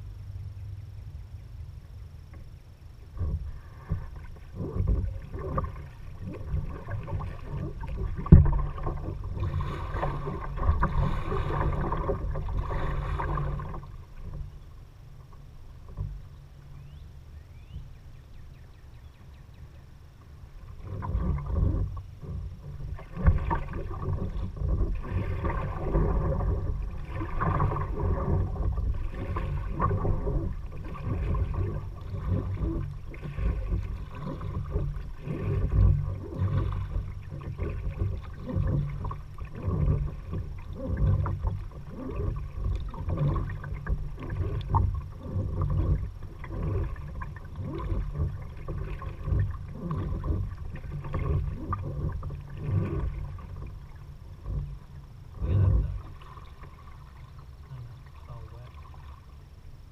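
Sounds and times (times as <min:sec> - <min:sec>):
low rumble: 0:00.0 - 0:59.9
paddle splashing in water: 0:03.0 - 0:17.9, 0:19.6 - 0:59.9.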